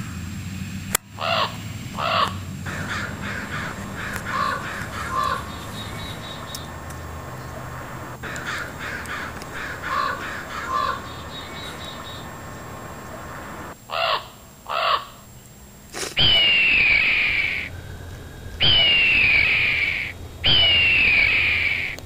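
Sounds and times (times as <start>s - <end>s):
steady low hum: 0.0s - 22.0s
crows cawing: 1.1s - 15.3s, 16.2s - 22.0s.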